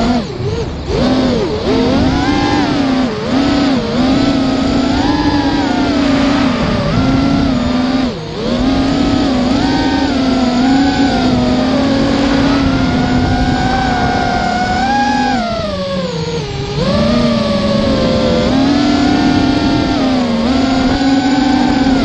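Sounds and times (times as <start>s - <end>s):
quadcopter motors whining: 0.0s - 22.0s.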